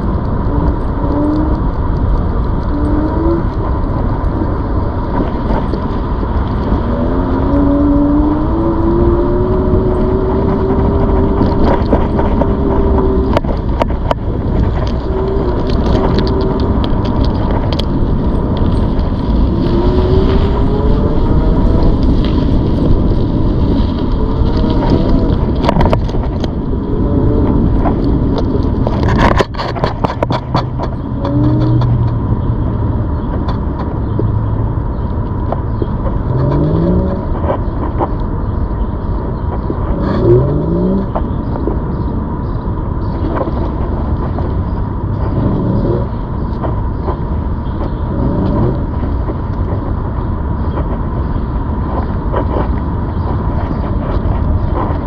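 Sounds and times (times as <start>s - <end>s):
electric bike riding rumble: 0.0s - 55.0s.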